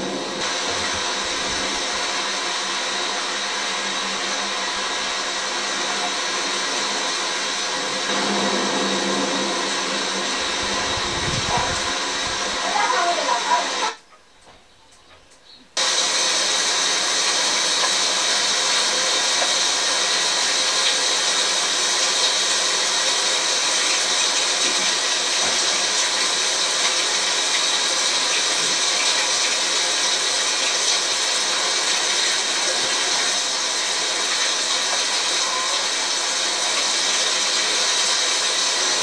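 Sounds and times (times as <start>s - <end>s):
heavy rain: 0.0s - 14.0s, 15.8s - 39.0s.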